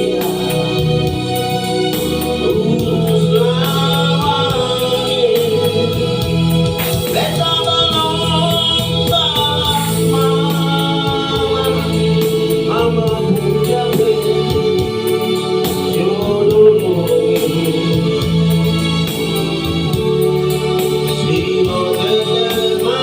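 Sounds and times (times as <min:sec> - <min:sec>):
gospel singing with instruments: 0:00.0 - 0:23.0.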